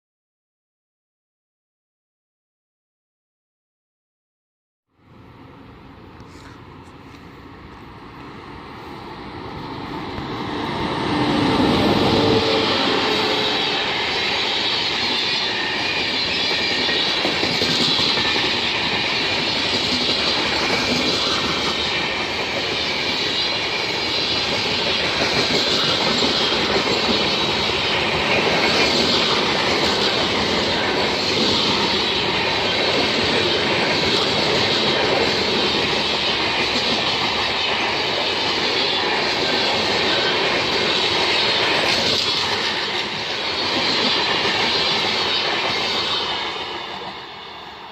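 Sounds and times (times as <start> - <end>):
steel wheels squealing on rail: 8.8 - 47.9.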